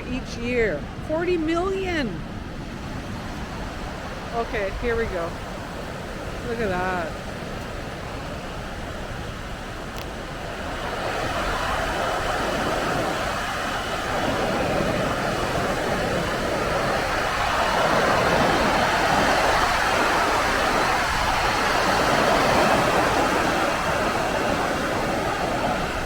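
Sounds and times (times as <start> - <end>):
waterfall rushing: 3.5 - 26.0.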